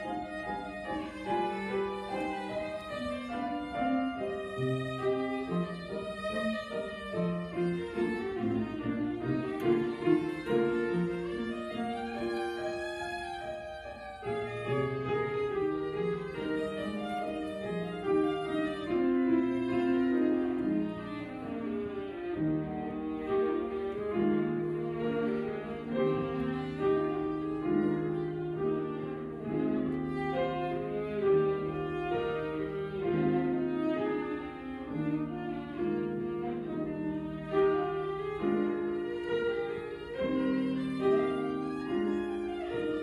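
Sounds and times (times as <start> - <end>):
piano accompaniment: 0.0 - 43.0
violin melody: 0.0 - 43.0.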